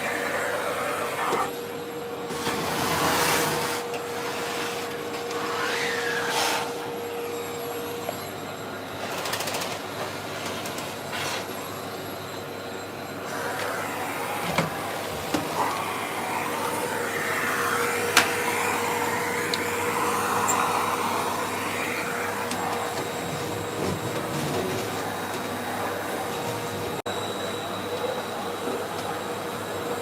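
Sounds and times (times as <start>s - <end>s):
vacuum cleaner running: 0.0s - 9.0s, 9.8s - 30.0s.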